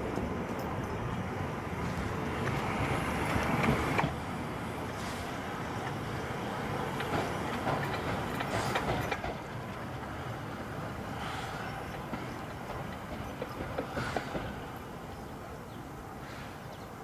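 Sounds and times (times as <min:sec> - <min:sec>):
train rumbling slowly: 0:00.0 - 0:17.0
train wheels clicking and clanking: 0:00.0 - 0:17.0.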